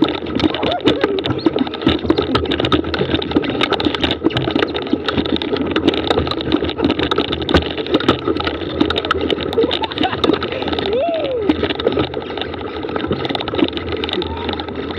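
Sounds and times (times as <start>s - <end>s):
bike rattles and clicks: 0.0s - 14.9s
bike tyres rumbling on dirt: 0.0s - 14.9s.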